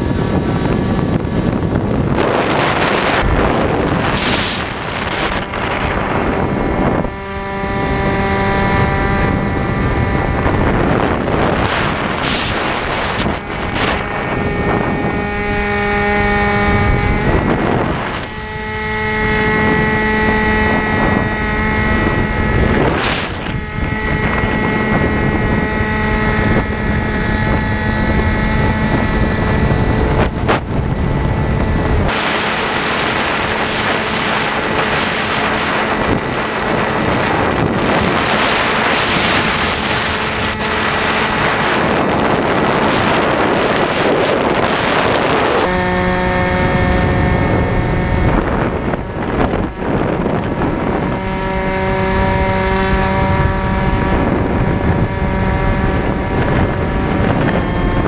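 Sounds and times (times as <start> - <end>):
electric motor and propeller hum: 0.0 - 58.0
wind buffeting microphone: 0.0 - 58.0.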